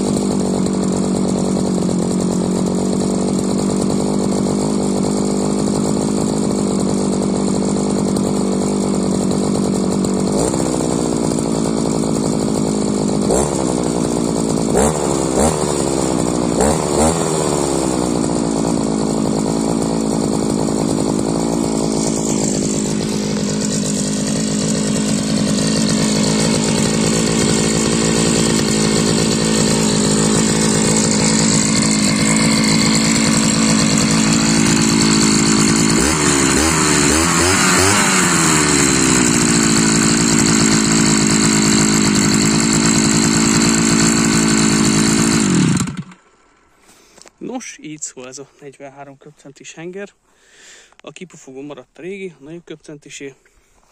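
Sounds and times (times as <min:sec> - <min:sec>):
two-stroke brushcutter engine: 0:00.0 - 0:53.9.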